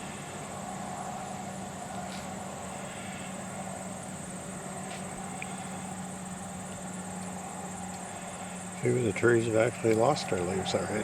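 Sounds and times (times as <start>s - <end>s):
low even hum: 0.0s - 11.0s
high-pitched insect trill: 0.7s - 11.0s.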